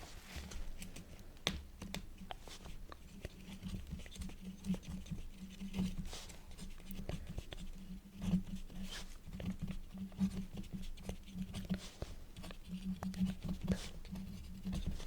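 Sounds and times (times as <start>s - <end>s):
quill scratching on paper: 2.3s - 15.0s.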